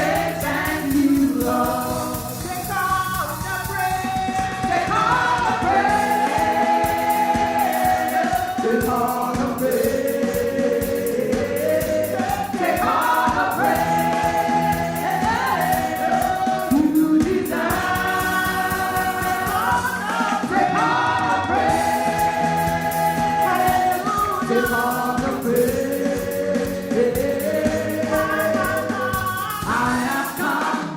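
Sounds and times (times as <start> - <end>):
gospel choir singing: 0.0 - 30.9
instrumental accompaniment with beat: 0.0 - 30.9.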